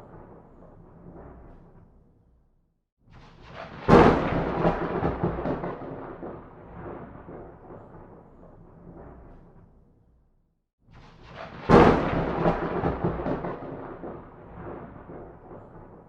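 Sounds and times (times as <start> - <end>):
thunder crack and rumble: 0.0 - 2.1, 3.2 - 10.2, 11.0 - 16.0.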